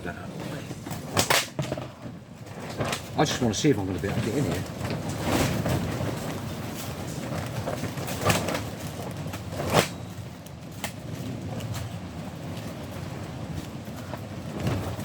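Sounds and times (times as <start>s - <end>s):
handling knocks and clatters: 0.3s - 15.0s.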